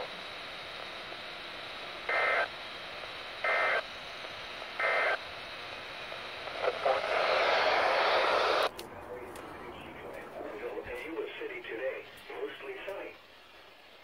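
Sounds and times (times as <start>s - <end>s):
radio hiss: 0.0s - 14.0s.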